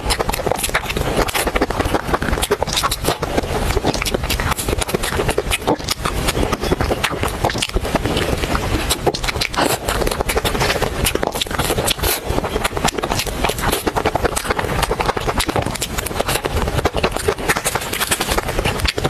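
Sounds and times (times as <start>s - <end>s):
wet chewing and lip smacking: 0.0s - 19.0s.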